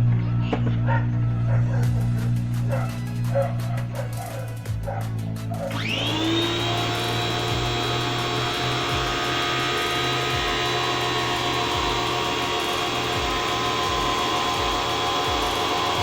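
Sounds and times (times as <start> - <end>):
pressure washer motor whine: 0.0 - 16.0.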